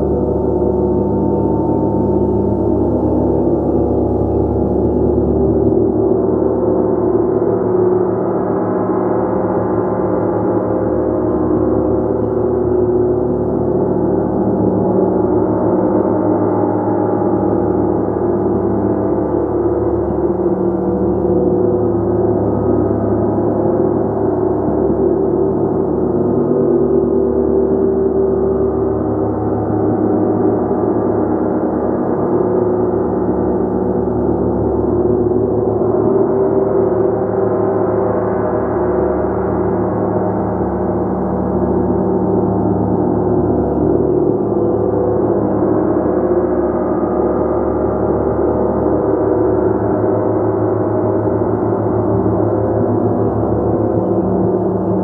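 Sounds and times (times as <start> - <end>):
gong sustained wash: 0.0 - 55.0.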